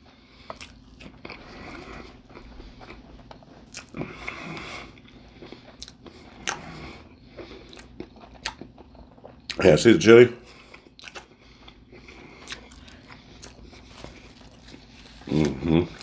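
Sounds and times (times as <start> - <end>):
person chewing wetly: 0.0 - 9.8, 10.4 - 16.0.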